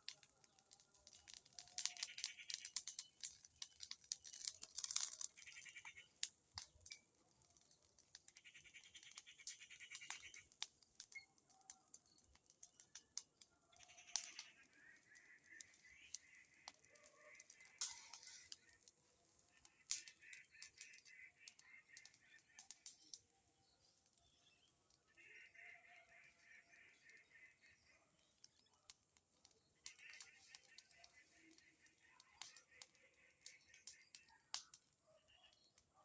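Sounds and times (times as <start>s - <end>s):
bonfire crackling and popping: 0.0s - 36.0s.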